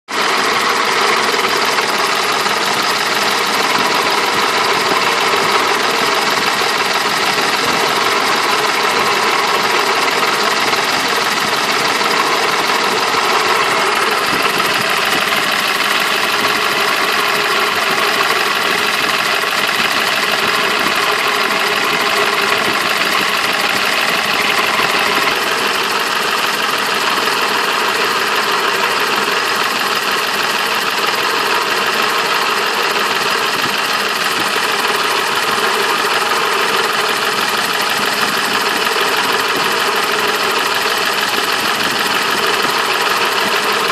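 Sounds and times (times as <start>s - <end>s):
car engine idling with a knock: 0.1s - 43.9s.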